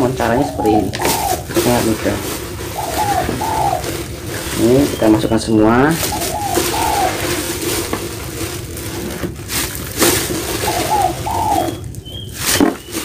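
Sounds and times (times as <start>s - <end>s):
dove cooing: 0.0s - 9.1s, 10.0s - 13.0s
raw chicken handled in bucket: 0.1s - 13.0s.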